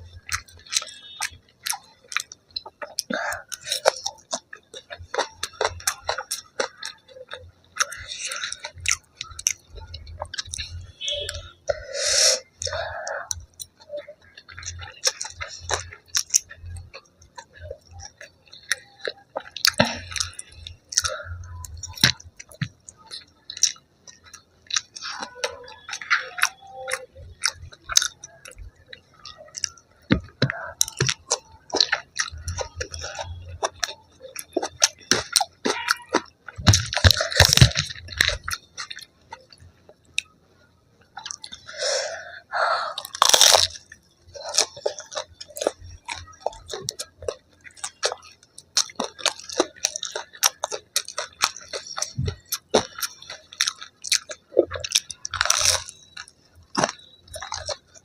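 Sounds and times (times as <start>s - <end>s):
crunchy chewing of fried food: 0.0s - 58.0s.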